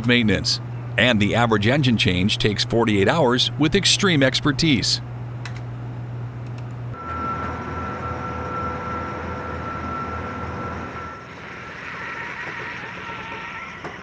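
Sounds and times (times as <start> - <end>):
steady high whine: 0.0 - 14.0.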